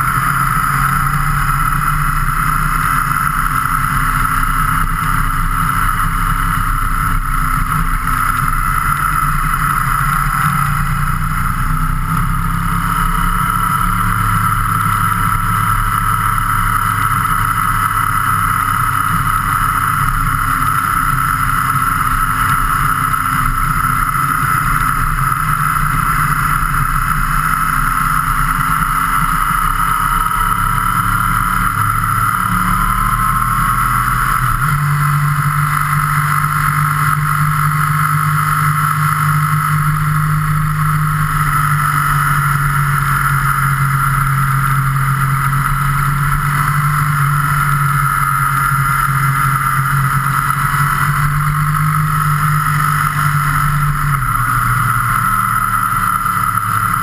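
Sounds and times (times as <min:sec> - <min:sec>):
vehicle engine cruising: 0:00.0 - 0:57.0.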